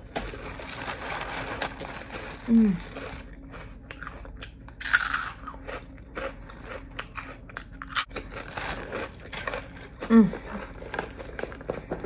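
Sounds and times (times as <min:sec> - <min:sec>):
chewing crunchy snack: 0:00.3 - 0:12.0.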